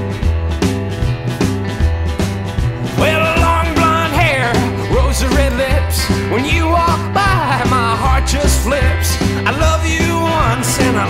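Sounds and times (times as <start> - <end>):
song with strong bass line: 0.0 - 11.0.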